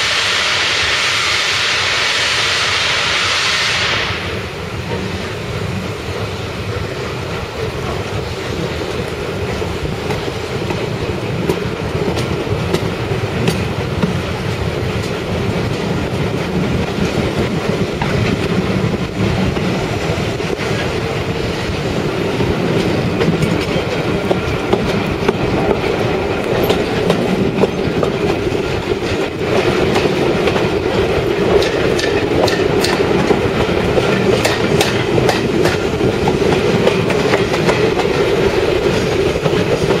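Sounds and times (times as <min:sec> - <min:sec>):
train wheels clicking over rail joints: 0:03.7 - 0:40.0.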